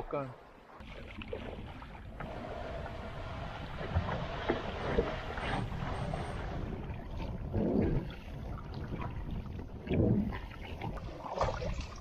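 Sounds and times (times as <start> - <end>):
paddles splashing in water: 0.6 - 12.0
wind rumble on microphone: 1.6 - 12.0.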